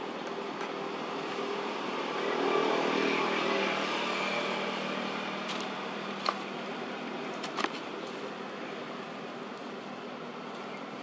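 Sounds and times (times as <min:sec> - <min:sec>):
outdoor background hum and hiss: 0:00.0 - 0:11.0.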